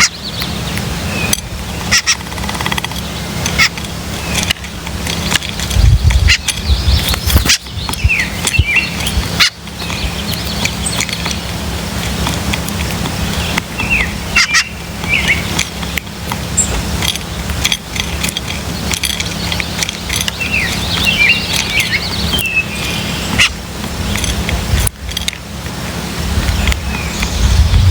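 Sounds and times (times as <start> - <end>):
sharp clicks: 0.0 - 25.8
small birds chirping: 0.0 - 27.9
steady low hum: 0.0 - 27.9.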